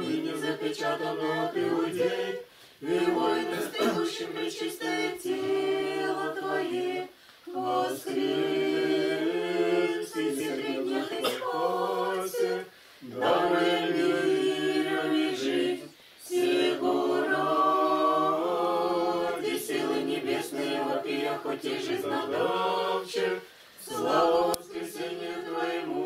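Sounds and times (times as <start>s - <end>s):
choir singing a cappella hymn: 0.0s - 26.0s.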